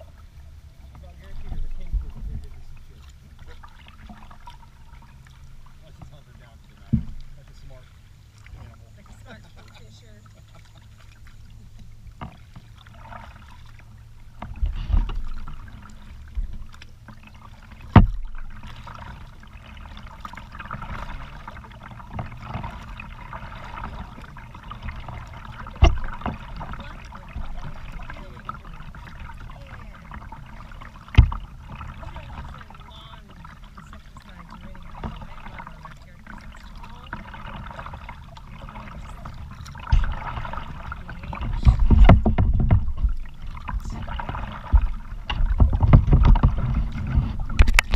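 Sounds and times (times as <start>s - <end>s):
low rumble: 0.0s - 47.9s
water splashing off paddle: 0.0s - 47.9s.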